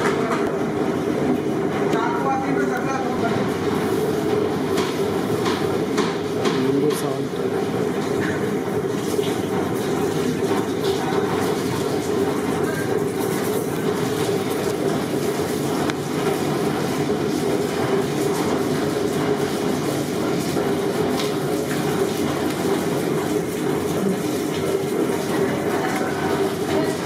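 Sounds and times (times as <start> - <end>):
busy commercial kitchen rumble: 0.0 - 27.0.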